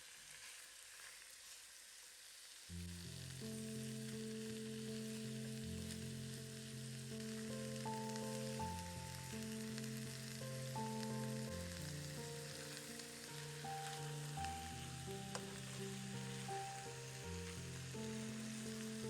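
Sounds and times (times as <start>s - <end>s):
food sizzling in frying pan: 0.0s - 19.0s
soft background music: 2.7s - 19.0s.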